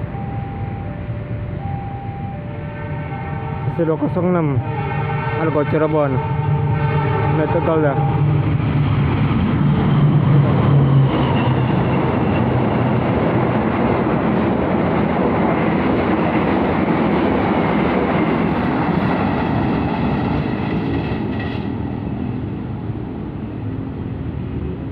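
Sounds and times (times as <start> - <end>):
train rumbling on rails: 0.0 - 24.9.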